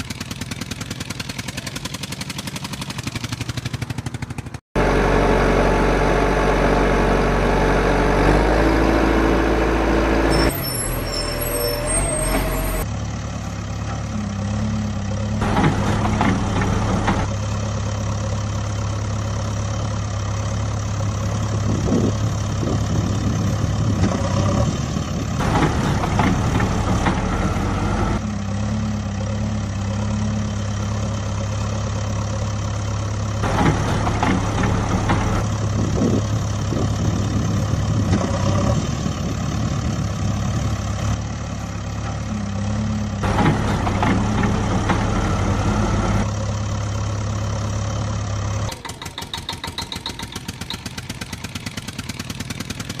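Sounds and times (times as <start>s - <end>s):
engine-like drone: 0.0s - 53.0s.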